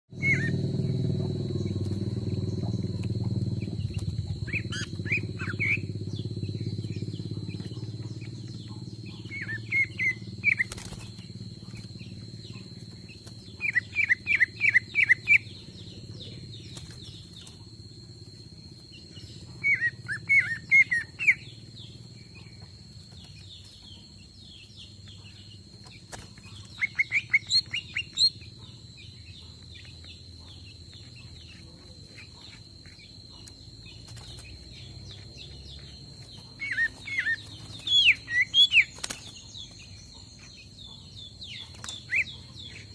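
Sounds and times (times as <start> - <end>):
high-pitched whine: 0.1 - 40.8.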